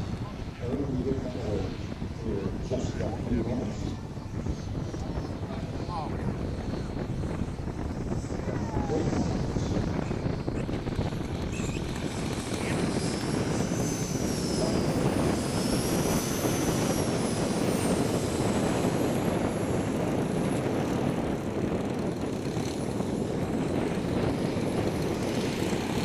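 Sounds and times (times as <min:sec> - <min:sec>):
model plane engine whine: 0:00.0 - 0:26.0.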